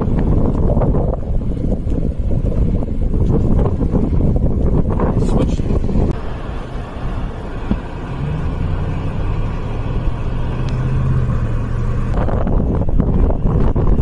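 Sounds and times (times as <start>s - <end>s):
wind buffeting microphone: 0.0s - 6.2s, 7.1s - 14.0s
motor vehicle humming: 0.0s - 14.0s.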